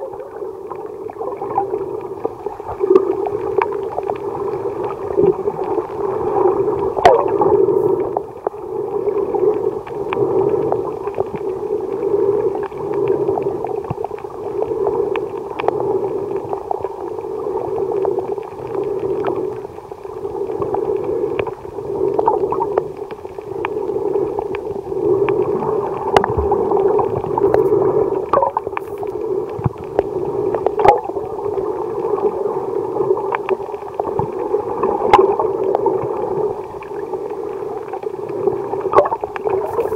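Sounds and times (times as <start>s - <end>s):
underwater rushing and sloshing: 0.0s - 39.9s.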